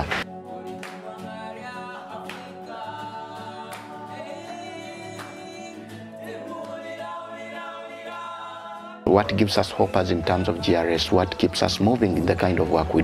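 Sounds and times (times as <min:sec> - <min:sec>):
voices singing held chords: 0:00.0 - 0:13.0.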